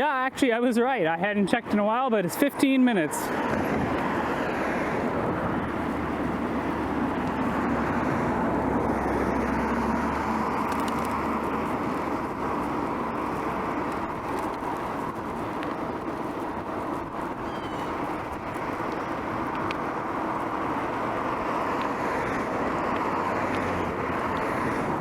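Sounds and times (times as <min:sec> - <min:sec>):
traffic noise: 0:00.0 - 0:25.0
passing vehicle rumble: 0:01.6 - 0:25.0.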